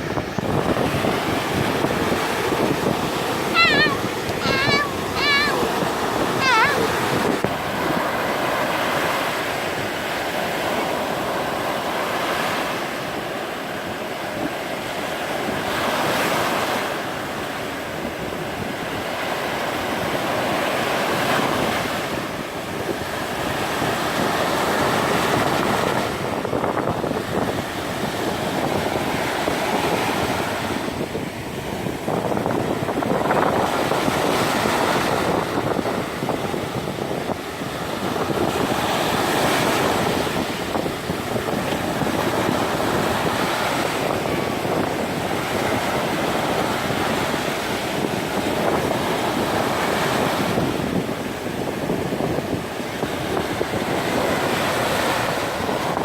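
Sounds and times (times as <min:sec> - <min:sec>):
surf breaking on a sandy beach: 0:00.0 - 0:56.0
wind buffeting microphone: 0:00.0 - 0:56.0.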